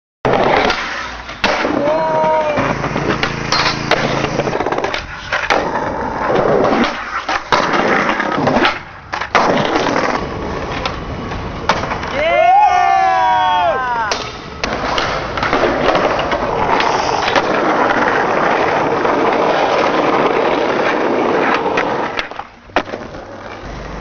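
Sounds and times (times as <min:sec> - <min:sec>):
skateboard clacking: 0:00.3 - 0:12.3, 0:14.1 - 0:24.0
skateboard rolling on concrete: 0:00.3 - 0:24.0.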